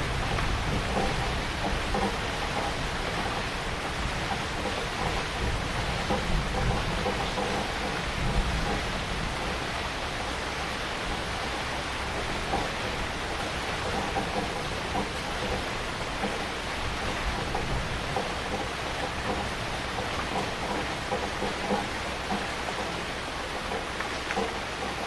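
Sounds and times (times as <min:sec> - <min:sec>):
heavy rain hiss: 0:00.0 - 0:25.0
raindrops spattering on surface: 0:00.0 - 0:25.0.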